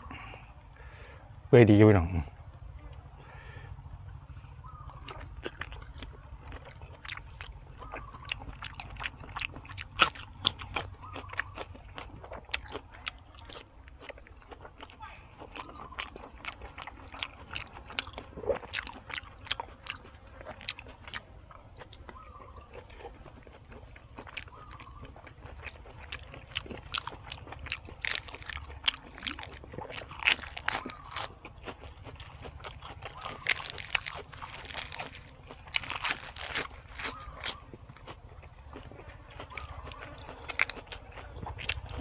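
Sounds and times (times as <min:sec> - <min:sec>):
wet chewing: 0:04.3 - 0:42.0
crisp crunching of food: 0:04.6 - 0:42.0.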